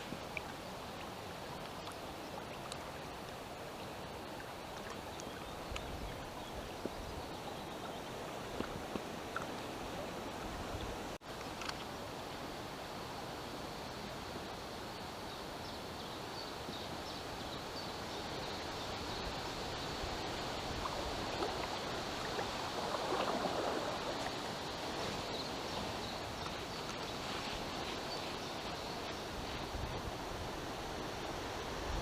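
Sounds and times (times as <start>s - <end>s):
small river rushing: 0.0s - 32.0s.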